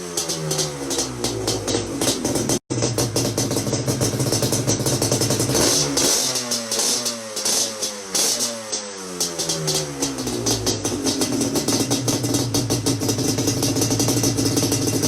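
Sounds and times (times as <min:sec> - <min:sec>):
two-stroke twin engine revving: 0:00.0 - 0:15.0.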